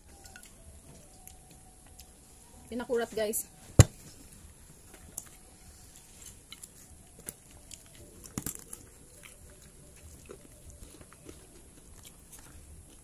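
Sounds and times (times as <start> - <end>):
chewing and crunching: 0.0 - 2.6, 4.9 - 13.0.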